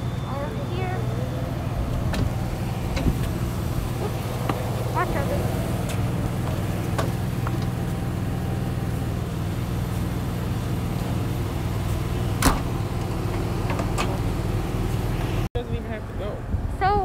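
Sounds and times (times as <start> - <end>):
engine low hum: 0.0 - 17.0.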